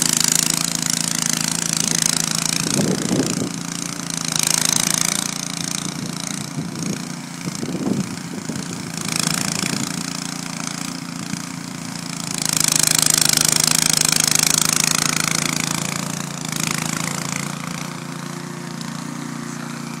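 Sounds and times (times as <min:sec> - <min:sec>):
snowblower engine running: 0:00.0 - 0:20.0.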